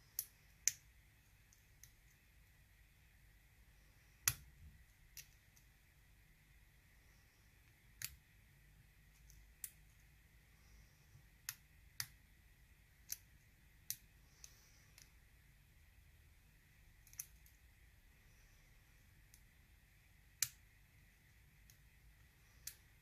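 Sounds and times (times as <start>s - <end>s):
faint hiss: 0.0s - 23.0s.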